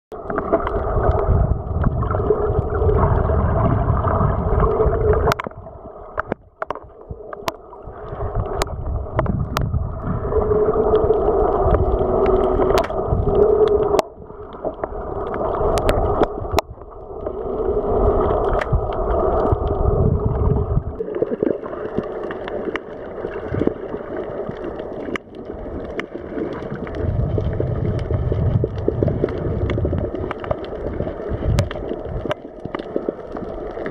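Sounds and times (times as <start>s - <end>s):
underwater gurgling drone: 0.1s - 33.9s.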